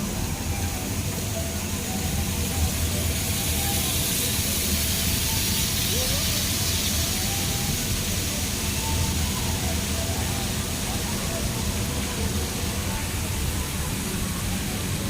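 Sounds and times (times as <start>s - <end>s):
even hiss: 0.0s - 15.0s
small train rumbling: 0.0s - 15.0s.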